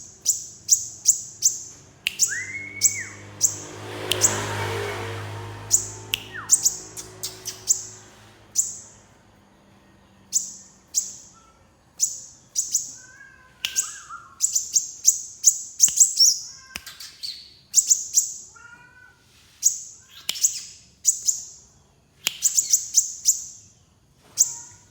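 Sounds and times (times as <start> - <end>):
songbird high chirps: 0.0 - 4.6, 5.6 - 18.5, 19.6 - 24.9.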